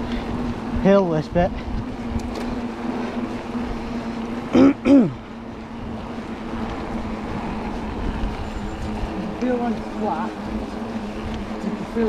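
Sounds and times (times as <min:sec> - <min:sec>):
bicycle road noise: 0:00.0 - 0:12.0
steady hum: 0:00.0 - 0:12.0.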